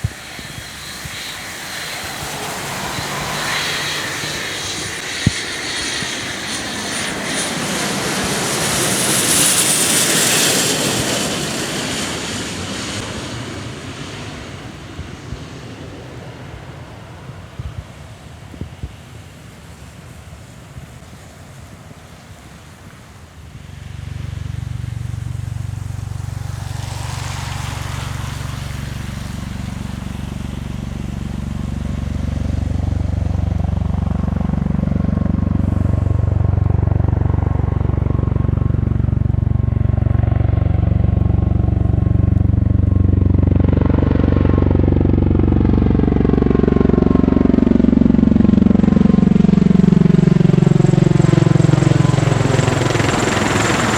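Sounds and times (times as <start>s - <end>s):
aircraft rotors droning: 0.0s - 53.9s
faint wind noise: 0.0s - 53.9s.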